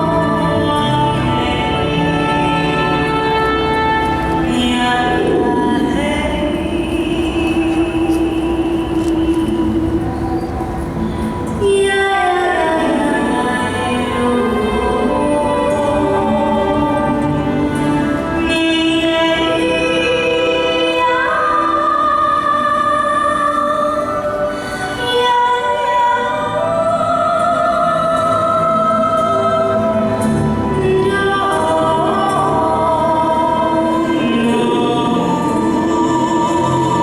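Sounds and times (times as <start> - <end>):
operatic singing voice: 0.0 - 37.0
orchestral music: 0.0 - 37.0.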